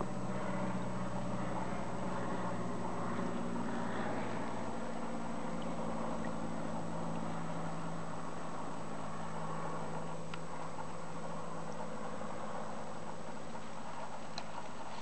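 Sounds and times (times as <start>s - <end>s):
aeroplane engine drone: 0.0s - 15.0s.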